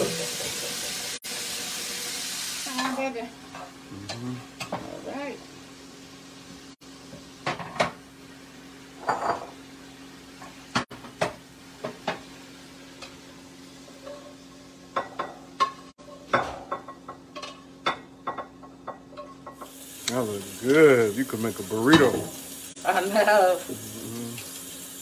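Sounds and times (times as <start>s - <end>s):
light sizzle: 0.0s - 25.0s.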